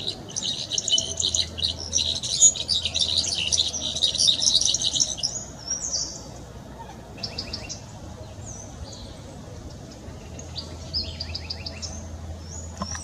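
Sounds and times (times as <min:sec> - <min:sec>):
bird twittering song: 0:00.0 - 0:13.0.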